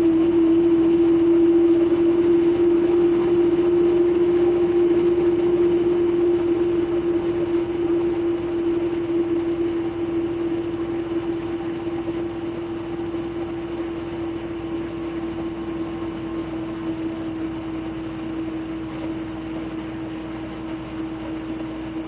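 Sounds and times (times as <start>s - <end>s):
bus interior engine hum: 0.0s - 22.0s.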